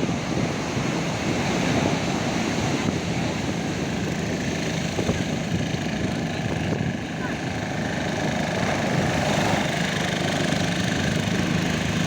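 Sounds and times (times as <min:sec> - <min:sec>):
sea waves: 0:00.0 - 0:12.0
wind: 0:00.0 - 0:12.0.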